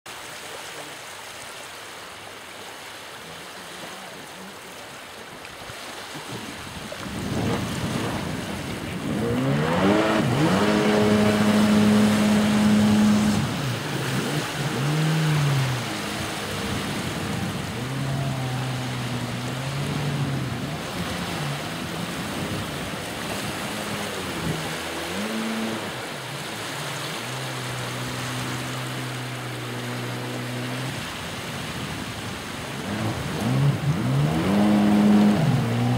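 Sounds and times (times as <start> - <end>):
water and air noise: 0.1 - 35.9
jet ski engine revving: 6.2 - 35.9.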